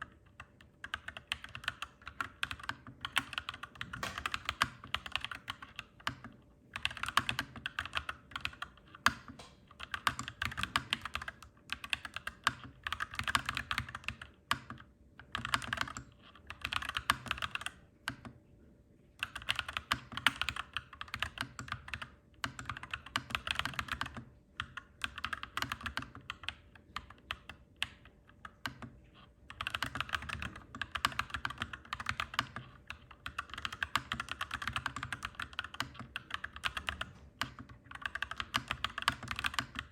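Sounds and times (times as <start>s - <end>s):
mechanical keyboard typing: 0.0s - 18.3s, 19.2s - 39.9s.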